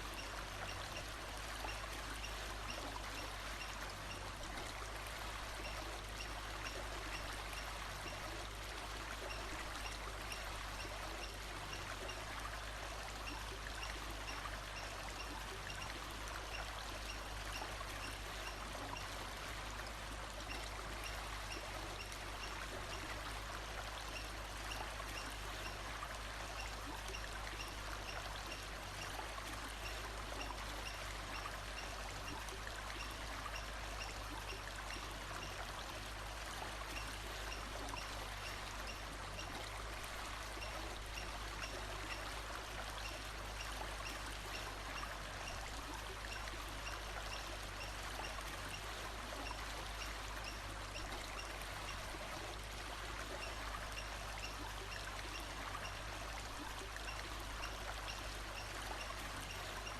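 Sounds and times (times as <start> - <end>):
rushing stream: 0.0 - 59.9.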